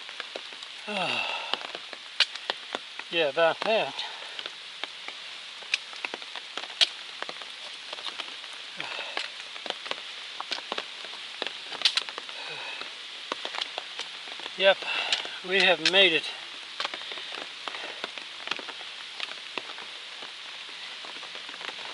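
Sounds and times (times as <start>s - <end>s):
rain falling: 0.0s - 21.9s
sharp clicks of raindrops: 0.0s - 21.9s.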